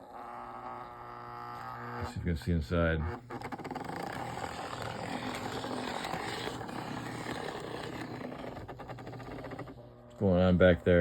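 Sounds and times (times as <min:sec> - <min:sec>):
toy locomotive motor whir: 0:00.0 - 0:09.8.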